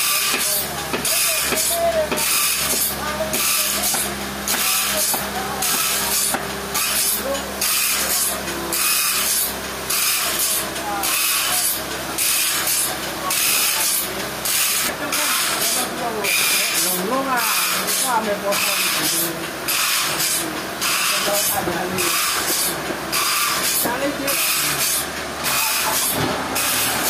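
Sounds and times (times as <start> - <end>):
rhythmic hissing scrape: 0.0 - 27.0
sawmill machinery hum: 0.0 - 27.0.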